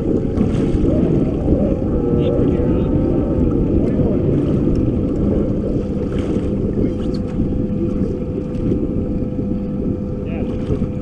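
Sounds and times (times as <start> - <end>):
boat motor humming: 0.0 - 11.0
wind buffeting microphone: 0.0 - 11.0.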